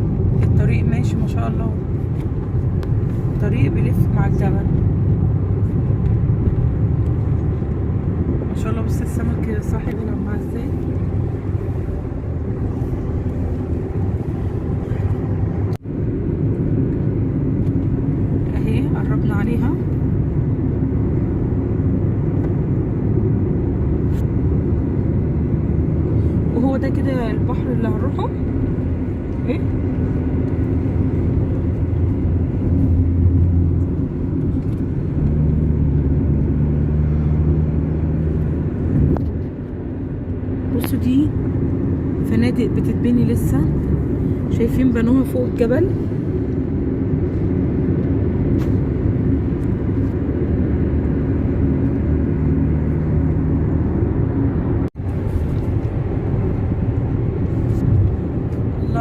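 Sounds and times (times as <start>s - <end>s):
car road and engine rumble: 0.0s - 59.0s
low hum: 0.0s - 59.0s.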